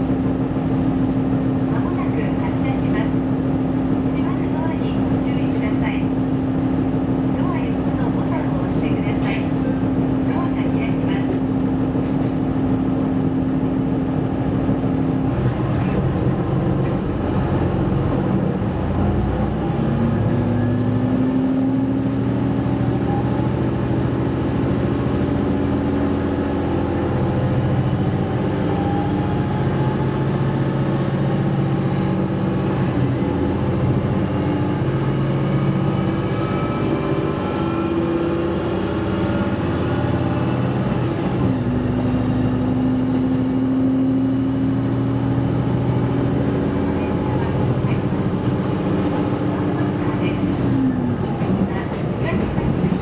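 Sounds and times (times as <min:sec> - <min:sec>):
diesel railcar engine running: 0:00.0 - 0:53.0.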